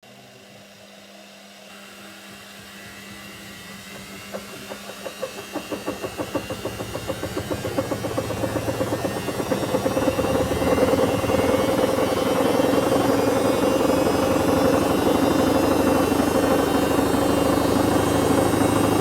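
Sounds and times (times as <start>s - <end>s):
washing machine speeding up: 2.2s - 19.0s
washing machine rhythmic knock: 3.1s - 19.0s.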